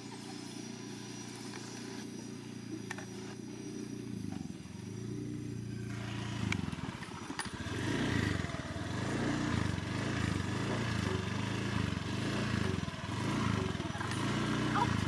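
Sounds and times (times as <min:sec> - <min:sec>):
scooter engine revving: 0:00.0 - 0:15.0.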